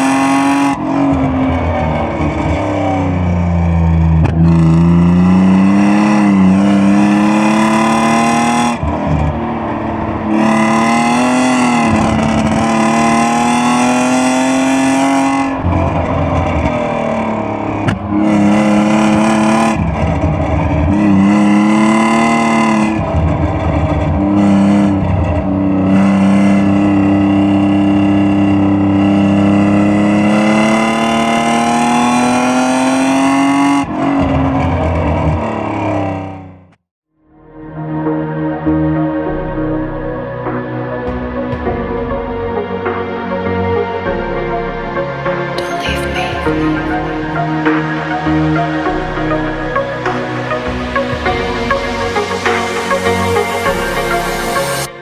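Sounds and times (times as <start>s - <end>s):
car engine accelerating hard: 0.0s - 36.8s, 39.2s - 55.0s.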